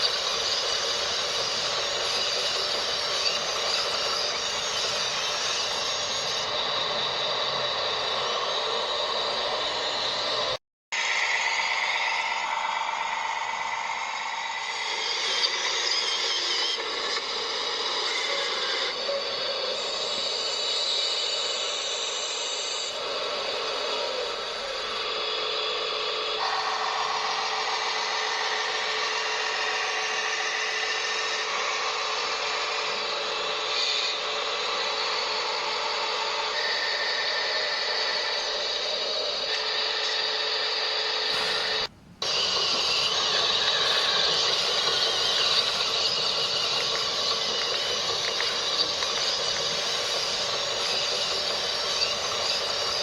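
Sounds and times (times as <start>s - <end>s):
small electric motors whining and grinding: 0.0s - 53.0s.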